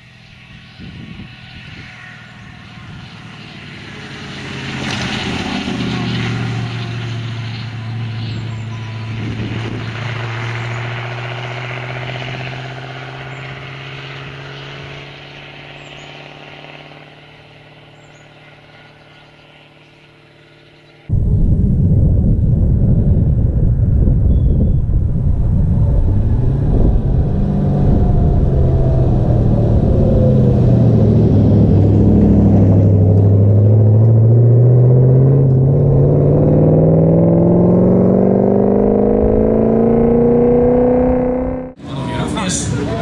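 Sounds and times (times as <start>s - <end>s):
car engine driving past: 0.0s - 20.4s, 21.0s - 43.0s.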